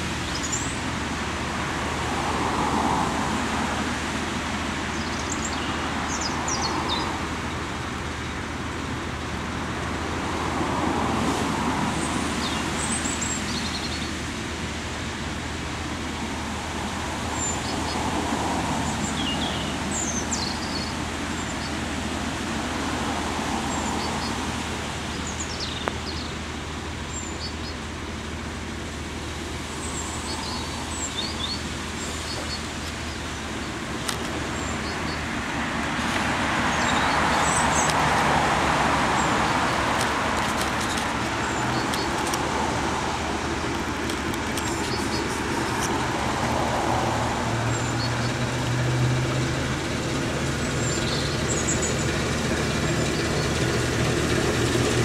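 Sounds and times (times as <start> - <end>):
birds chirping: 0.0 - 1.0, 4.6 - 8.9, 11.9 - 15.0, 17.2 - 55.0
distant diesel engine drone: 0.0 - 55.0.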